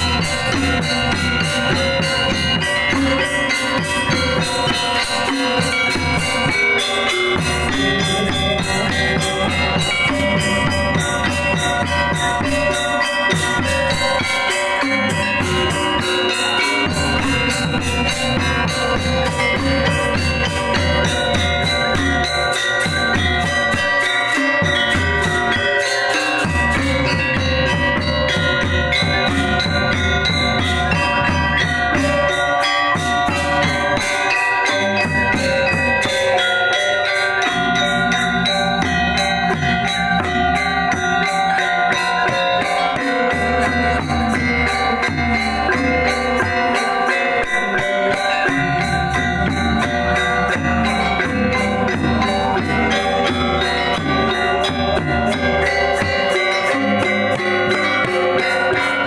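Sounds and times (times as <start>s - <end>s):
drums: 0.0s - 59.0s
metallophones ringing: 0.0s - 59.0s.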